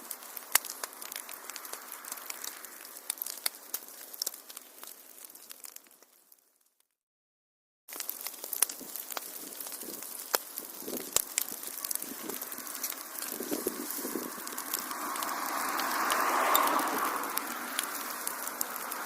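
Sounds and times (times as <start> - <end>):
steady fire hiss: 0.0 - 6.4, 7.9 - 19.0
wood fire crackling and popping: 0.0 - 6.8, 7.9 - 19.0.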